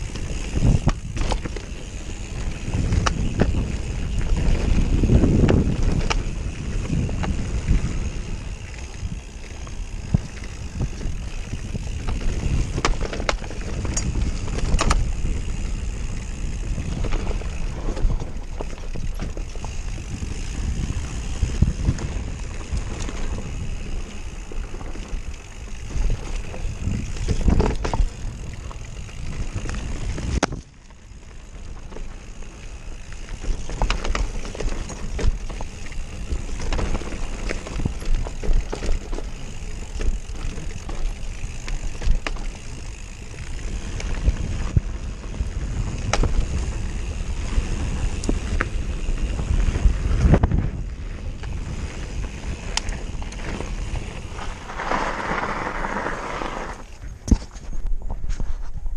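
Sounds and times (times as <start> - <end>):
bike rattling and knocking: 0.0 - 58.7
tyre noise on dirt: 0.0 - 58.9
wind buffeting microphone: 0.0 - 58.9.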